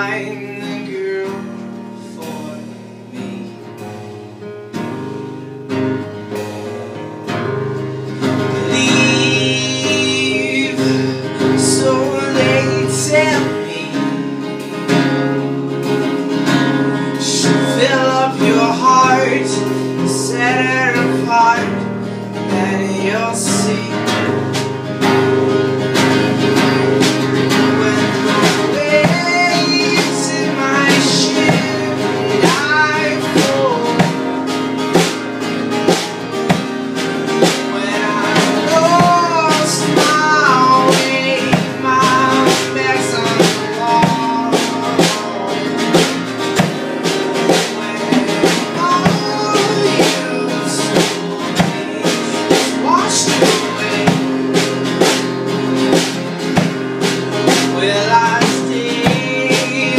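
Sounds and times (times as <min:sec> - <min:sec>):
acoustic guitar: 0:00.0 - 0:59.9
drum kit: 0:00.0 - 0:59.9.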